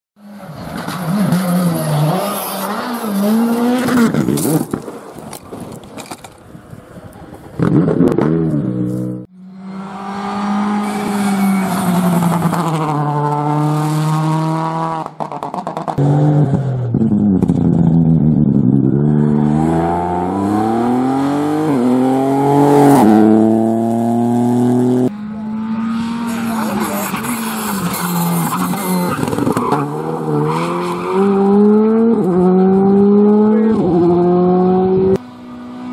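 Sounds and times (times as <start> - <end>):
rally car engines accelerating: 0.2 - 4.8, 7.6 - 35.9.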